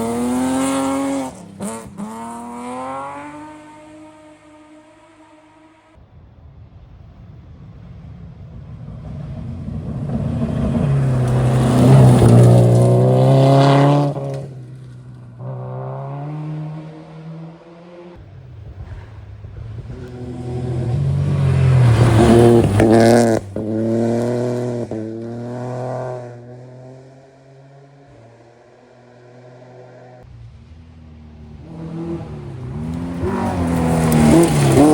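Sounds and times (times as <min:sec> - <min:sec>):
rally cars passing at full throttle: 0:00.0 - 0:34.9.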